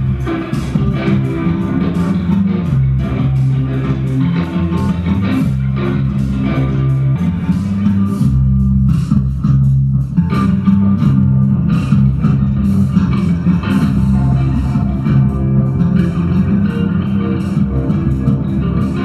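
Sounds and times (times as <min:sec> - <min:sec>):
electric bass low notes: 0:00.0 - 0:19.0
electric guitar: 0:00.0 - 0:19.0.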